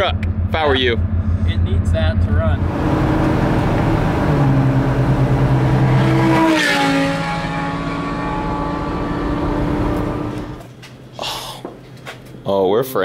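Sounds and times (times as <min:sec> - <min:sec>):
vehicle engine driving: 0:00.0 - 0:11.1.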